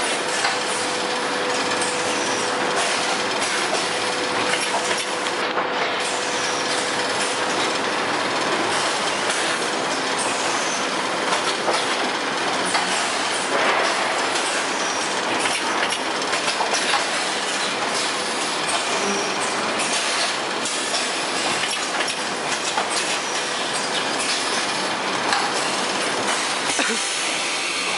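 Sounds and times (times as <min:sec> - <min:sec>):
packaging machinery clattering: 0:00.0 - 0:27.9.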